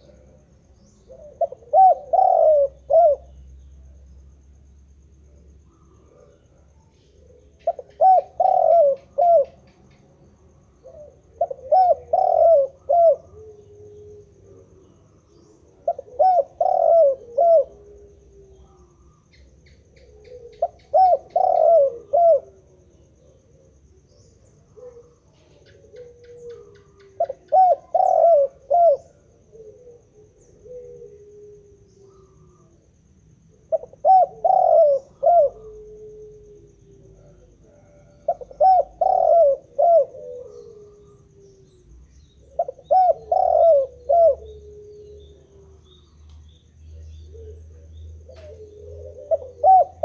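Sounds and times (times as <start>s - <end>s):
dove cooing: 0.0s - 4.4s, 5.2s - 50.0s.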